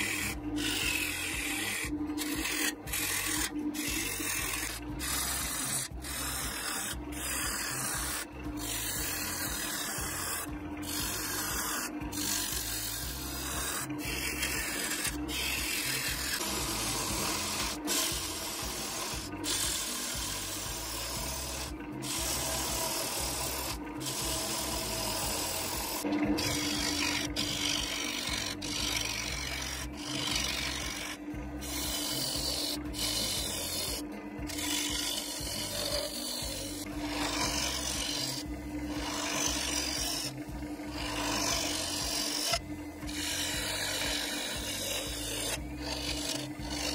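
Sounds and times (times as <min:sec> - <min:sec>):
gouge scraping spinning wood bowl: 0:00.0 - 0:46.9.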